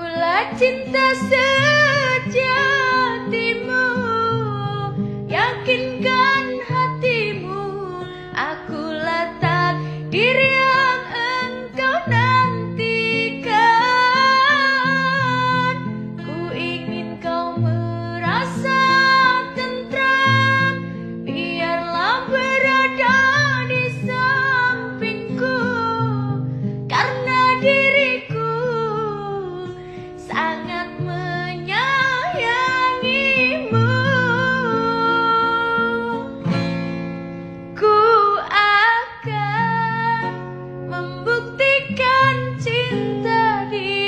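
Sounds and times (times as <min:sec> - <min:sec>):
woman singing a slow ballad: 0:00.0 - 0:36.9, 0:37.6 - 0:44.0
plucked acoustic guitar: 0:00.0 - 0:44.0.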